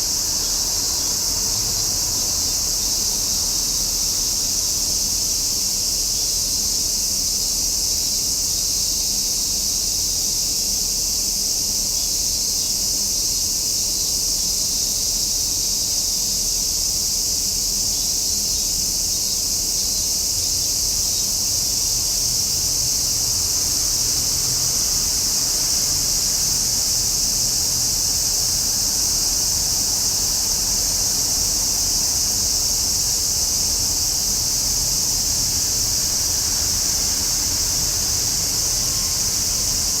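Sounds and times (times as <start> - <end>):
cicadas singing: 0.0 - 40.0.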